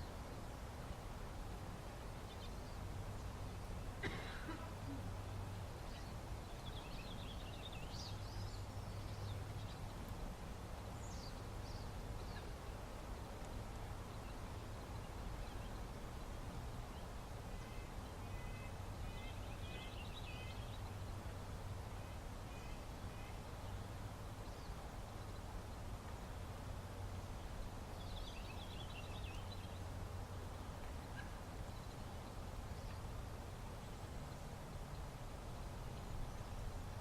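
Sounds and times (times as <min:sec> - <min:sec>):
low background hum: 0:00.0 - 0:37.0
small birds chirping: 0:01.9 - 0:26.4, 0:27.2 - 0:35.2.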